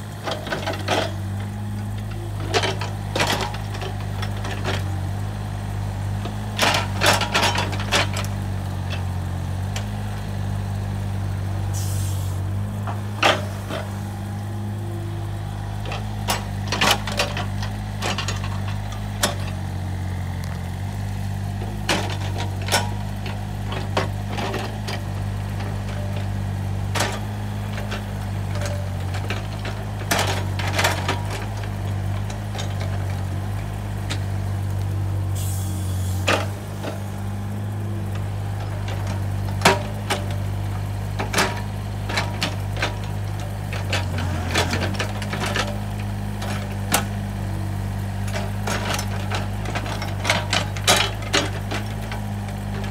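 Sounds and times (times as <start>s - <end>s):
excavator diesel engine running: 0.0s - 52.9s
knocks and clanks of digging: 0.2s - 5.2s, 5.8s - 9.1s, 12.8s - 14.6s, 15.4s - 19.9s, 21.2s - 52.9s.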